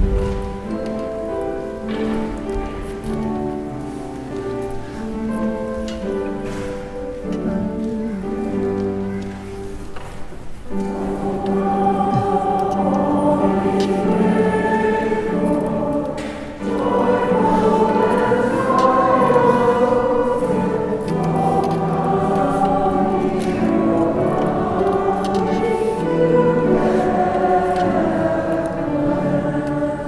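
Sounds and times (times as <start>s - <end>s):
choir singing: 0.0s - 9.9s, 10.6s - 30.0s.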